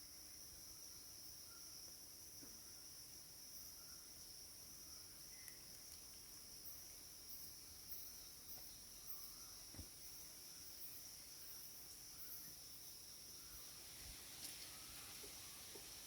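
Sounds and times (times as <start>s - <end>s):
faint insect chorus trilling: 0.0s - 16.0s.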